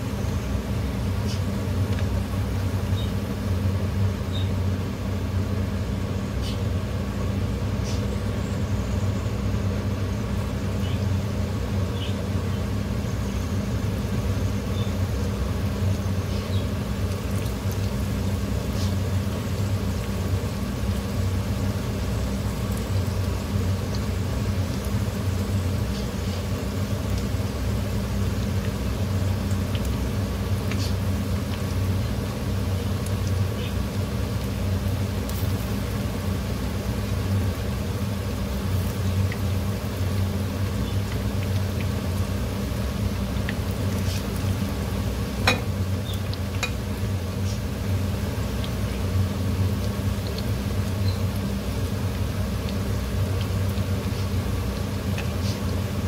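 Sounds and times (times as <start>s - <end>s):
batter sizzling in hot oil: 0.0s - 56.0s
low mechanical hum: 0.0s - 56.0s.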